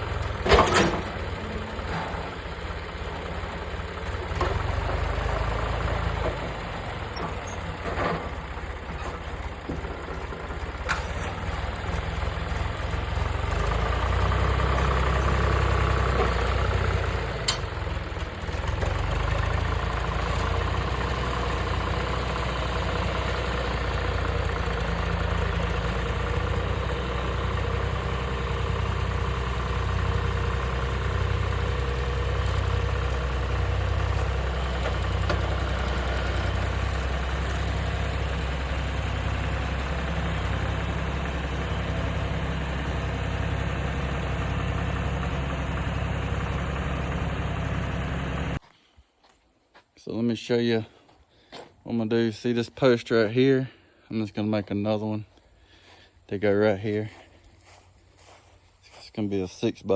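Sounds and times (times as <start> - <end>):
engine idling: 0.0 - 48.6.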